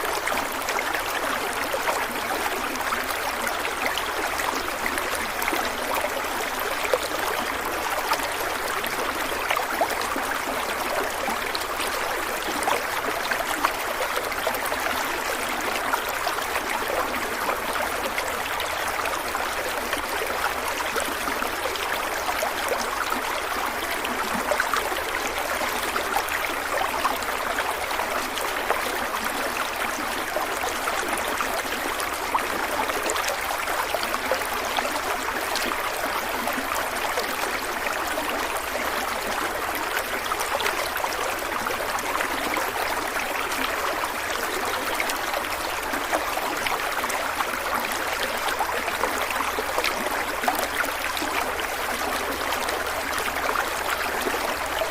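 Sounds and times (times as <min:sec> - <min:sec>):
stream water over rocks: 0:00.0 - 0:54.9.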